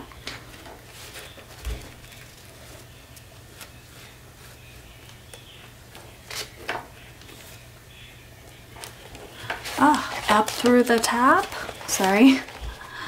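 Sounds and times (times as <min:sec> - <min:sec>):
paper rustling and handling: 0:00.1 - 0:13.0.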